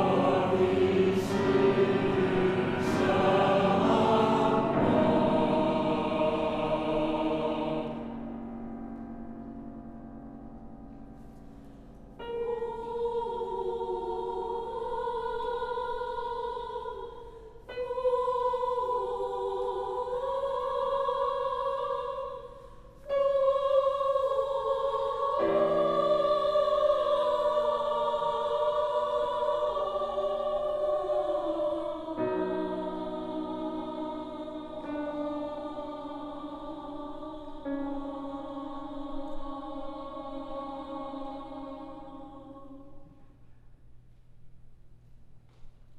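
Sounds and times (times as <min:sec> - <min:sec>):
choir singing sustained chords: 0:00.0 - 0:43.9.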